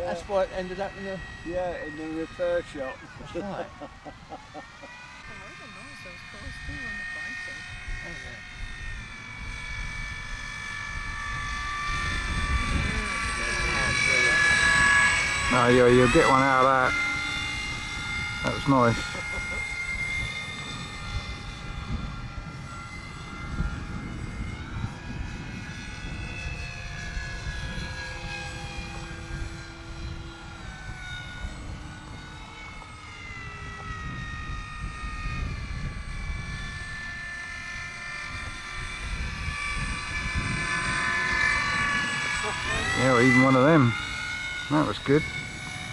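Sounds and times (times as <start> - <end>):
model airplane engine droning: 0.0 - 45.9
wind on microphone: 0.0 - 45.9.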